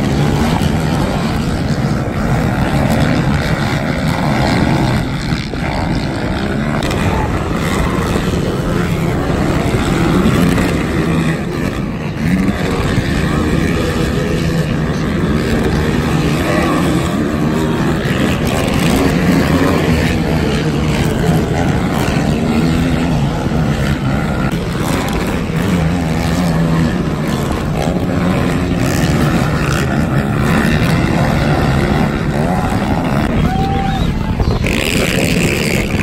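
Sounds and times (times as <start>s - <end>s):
racing atv engines revving: 0.0s - 36.0s.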